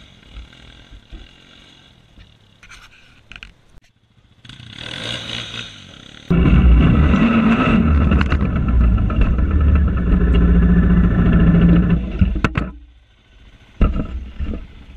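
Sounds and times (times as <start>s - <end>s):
atv engine running under throttle: 0.0s - 2.6s, 4.0s - 14.9s.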